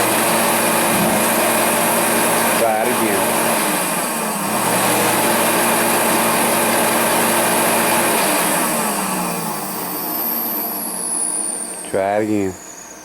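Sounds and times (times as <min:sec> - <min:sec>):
heater blower motor hum: 0:00.0 - 0:13.0.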